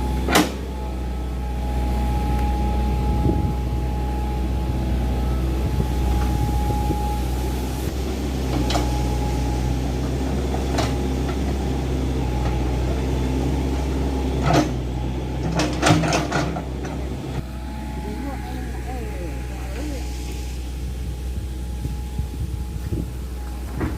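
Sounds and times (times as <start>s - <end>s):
excavator diesel engine: 0.0s - 23.9s
thin whine: 0.0s - 23.9s.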